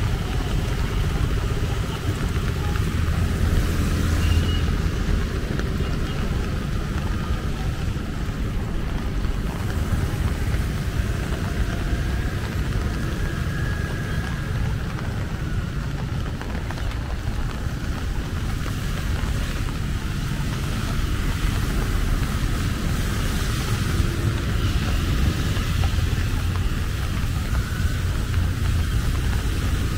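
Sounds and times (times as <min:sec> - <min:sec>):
motorbikes: 0:00.0 - 0:29.9
street traffic on wet road: 0:00.0 - 0:29.9
wind rumbling on microphone: 0:00.0 - 0:29.9.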